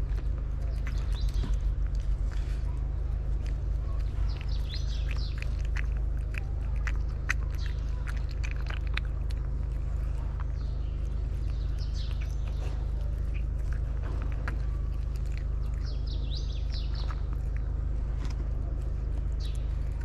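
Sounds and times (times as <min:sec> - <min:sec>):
cat chewing and lapping food: 0:00.0 - 0:20.0
small bird chirping: 0:00.0 - 0:20.0
steady low hum: 0:00.0 - 0:20.0.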